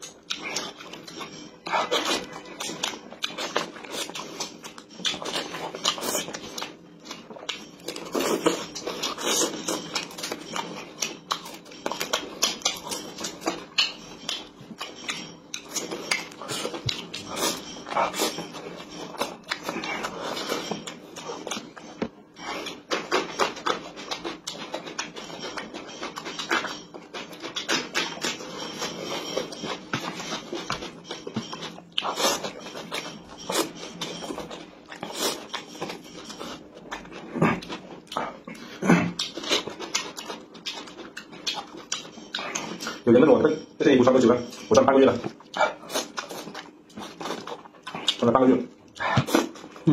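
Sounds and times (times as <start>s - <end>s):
person chewing with open mouth: 0.0s - 43.1s, 44.5s - 49.9s.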